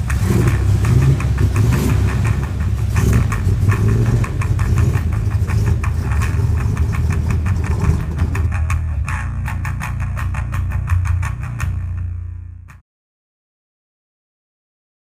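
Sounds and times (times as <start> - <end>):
truck engine idling: 0.0 - 12.4.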